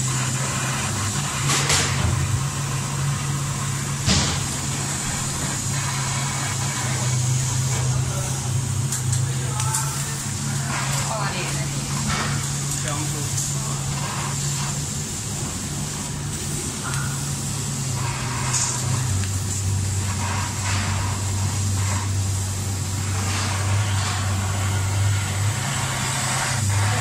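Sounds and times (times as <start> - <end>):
constant airy hiss: 0.0 - 27.0
laser cutter humming: 0.0 - 27.0.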